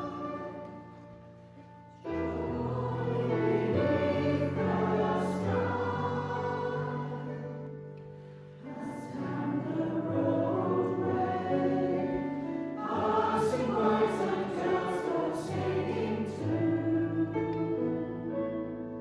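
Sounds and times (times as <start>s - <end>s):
choir singing in harmony: 0.0s - 18.8s
piano accompaniment: 0.0s - 19.0s.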